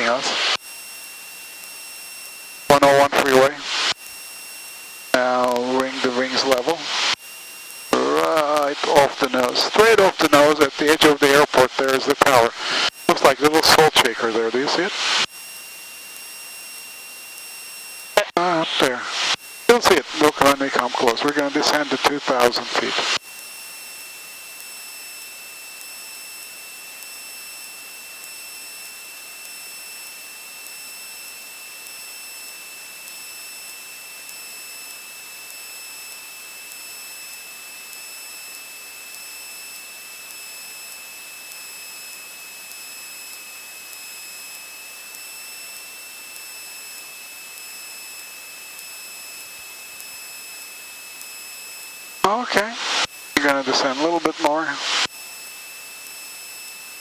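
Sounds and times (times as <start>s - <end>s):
headset intercom hiss and whine: 0.0s - 57.0s.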